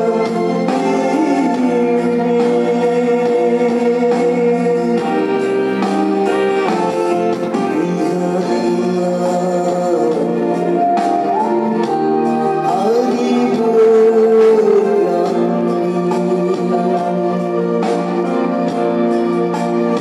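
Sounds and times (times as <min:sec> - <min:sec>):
man singing into a microphone: 0:00.0 - 0:05.9, 0:07.3 - 0:19.1
backing music: 0:00.0 - 0:20.0.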